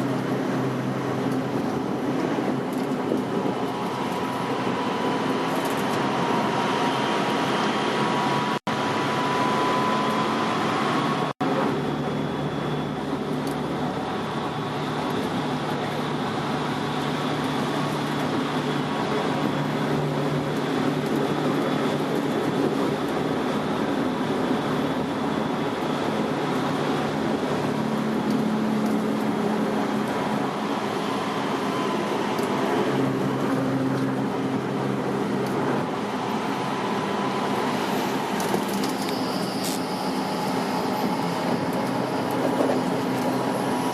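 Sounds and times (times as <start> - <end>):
traction motor whine: 0.0 - 43.9
train wheels on rails: 0.0 - 43.9.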